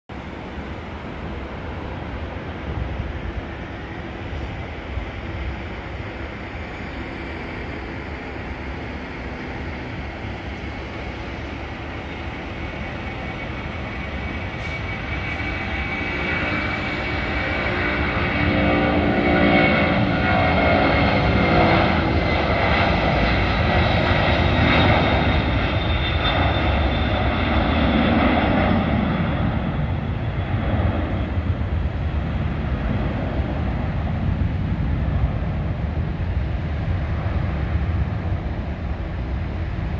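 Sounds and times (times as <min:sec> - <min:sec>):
jet engine whine: 0:00.1 - 0:39.9
jet engines rumbling: 0:00.1 - 0:39.9.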